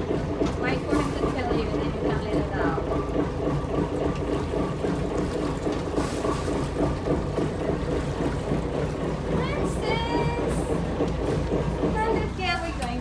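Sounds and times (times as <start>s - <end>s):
water rushing along hull: 0.0s - 13.0s.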